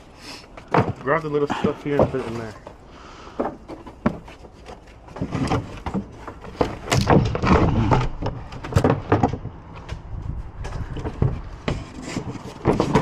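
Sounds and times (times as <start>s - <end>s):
junk knocking and clattering: 0.6s - 2.8s, 3.4s - 13.0s.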